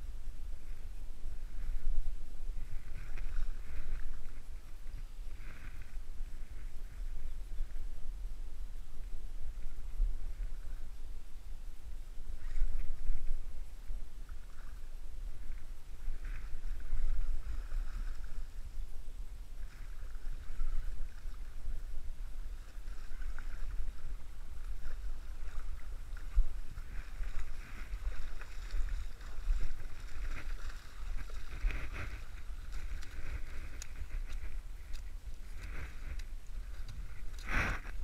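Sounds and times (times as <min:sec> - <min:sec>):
low wind rumble on microphone: 0:00.0 - 0:38.0.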